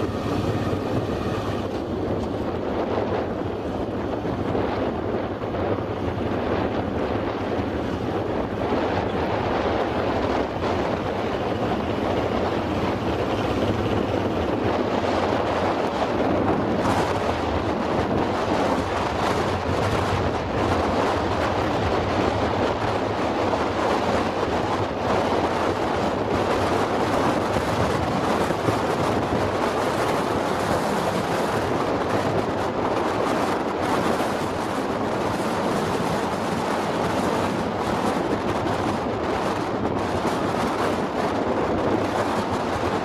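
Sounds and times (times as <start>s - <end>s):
vehicle engine rumble: 0.0s - 43.0s
wind buffeting microphone: 0.0s - 43.0s.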